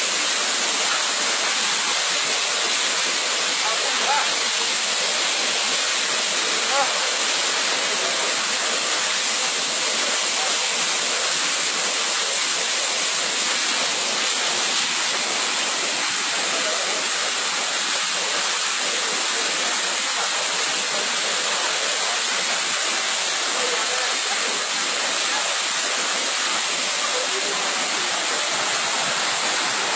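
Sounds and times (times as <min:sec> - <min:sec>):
waterfall rushing over boulders: 0:00.0 - 0:29.9.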